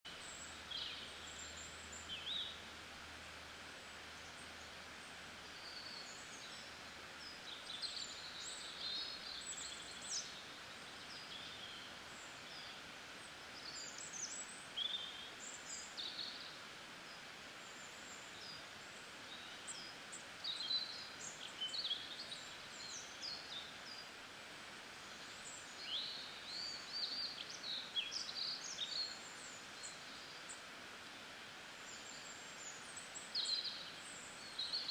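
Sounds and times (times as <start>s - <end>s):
small birds chirping: 0.1s - 3.0s, 3.7s - 34.9s
faint hiss: 0.1s - 34.9s.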